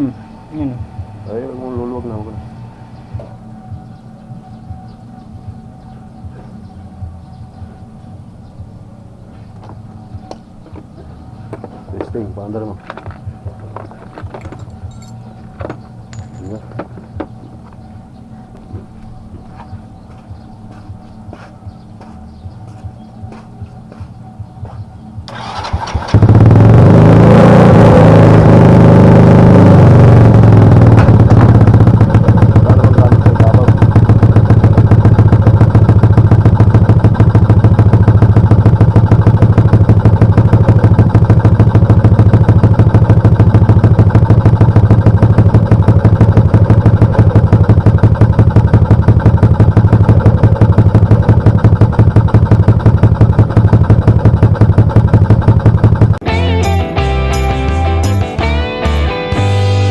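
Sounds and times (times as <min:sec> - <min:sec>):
motorcycle engine revving and idling: 0:00.0 - 0:56.2.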